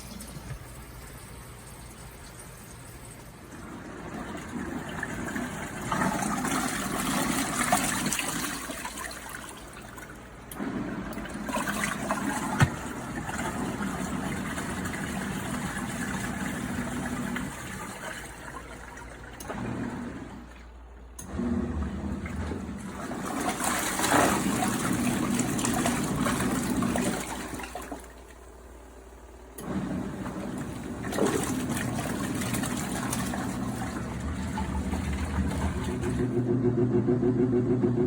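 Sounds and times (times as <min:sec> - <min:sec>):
water sloshing in washing machine: 0:00.0 - 0:38.0.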